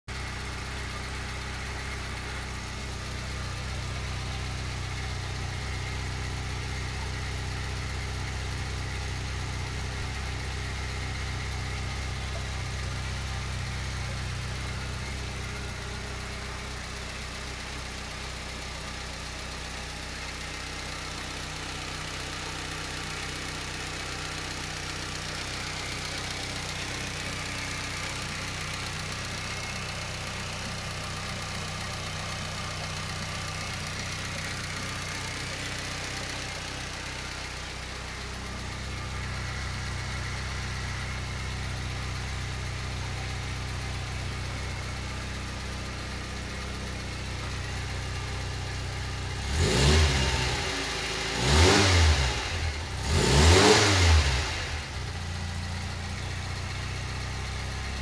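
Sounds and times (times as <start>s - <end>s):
car engine idling: 0.1s - 58.0s.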